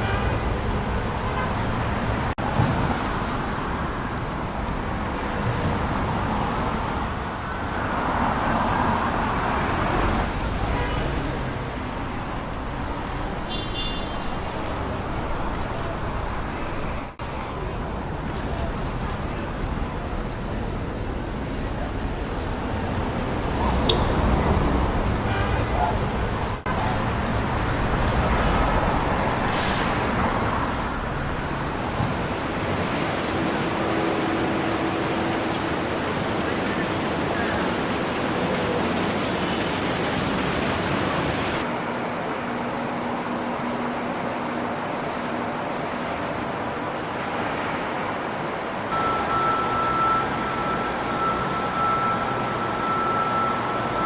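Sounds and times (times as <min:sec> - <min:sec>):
city street traffic noise: 0:00.0 - 0:54.0
passing cars road noise: 0:00.0 - 0:54.0.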